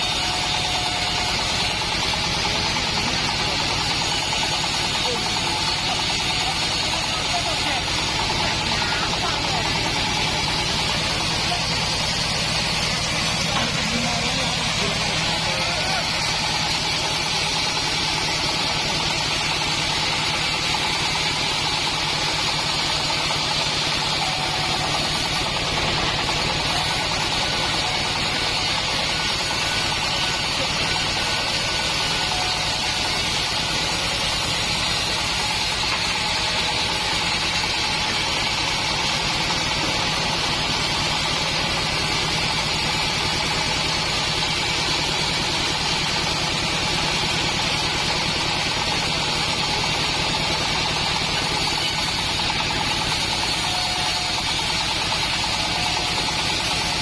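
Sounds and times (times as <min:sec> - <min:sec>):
bandsaw mill engine drone: 0:00.0 - 0:57.0.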